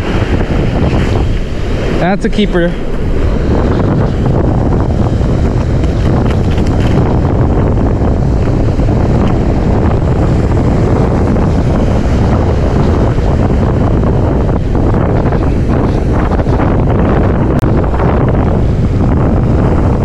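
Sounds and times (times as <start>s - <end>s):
waves breaking: 0.0s - 19.9s
surf washing up beach: 0.0s - 20.0s
wind buffeting microphone: 0.0s - 20.0s.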